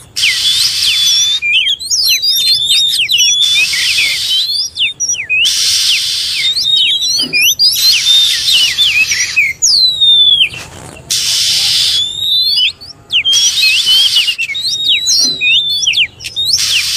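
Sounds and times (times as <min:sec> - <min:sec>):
harsh hissy bird scolding: 0:00.0 - 0:15.5, 0:16.2 - 0:16.9
bird whistling song: 0:00.0 - 0:16.9.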